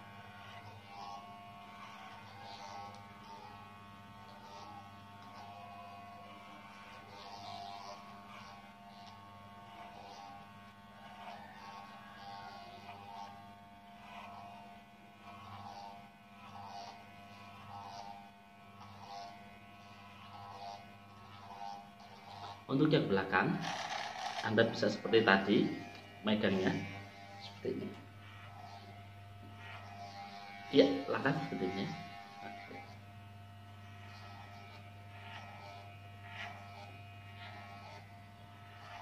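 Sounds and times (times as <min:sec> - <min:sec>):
electric hair clipper buzzing: 0:00.0 - 0:39.0.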